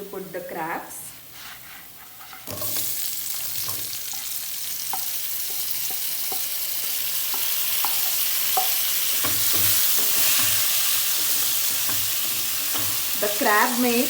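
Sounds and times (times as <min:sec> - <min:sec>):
food sizzling in a pan: 0:00.1 - 0:14.0
pan being stirred: 0:01.3 - 0:14.0.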